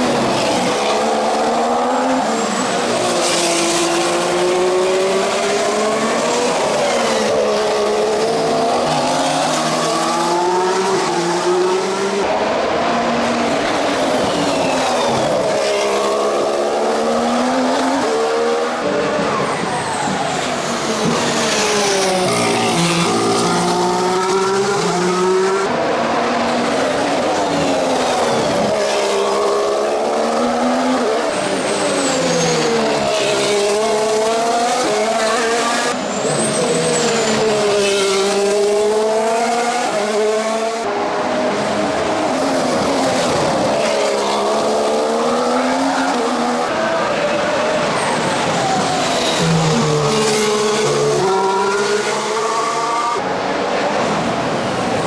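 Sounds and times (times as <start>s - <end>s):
racing car engine: 0.0s - 55.0s.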